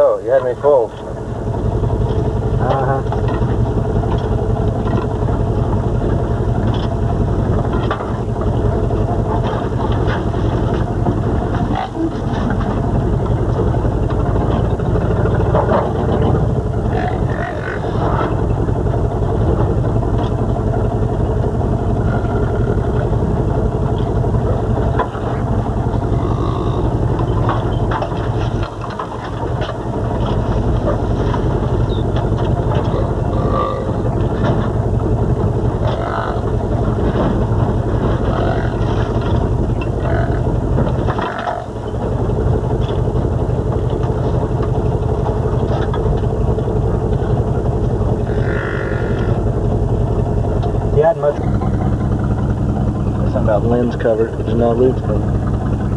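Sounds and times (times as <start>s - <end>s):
truck engine running: 0.0s - 55.9s
knocks and rattles: 0.3s - 55.9s.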